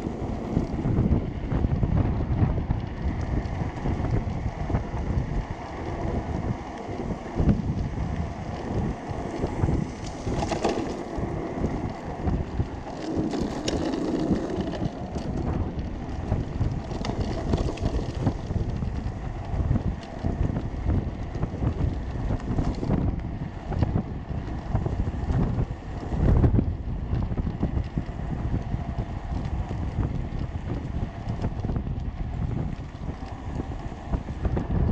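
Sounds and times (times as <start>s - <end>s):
low rumble of go-kart: 0.0s - 34.9s
wind buffeting microphone: 0.0s - 34.9s.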